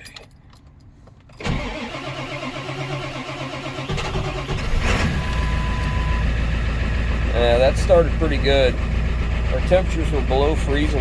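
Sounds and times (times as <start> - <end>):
diesel engine revving and idling: 1.6 - 11.0.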